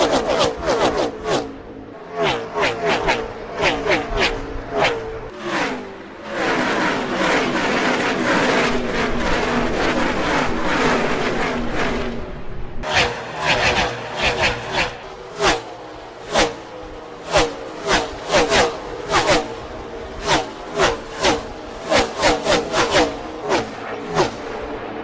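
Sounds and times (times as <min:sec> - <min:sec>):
race car engines passing by: 0:00.0 - 0:25.0.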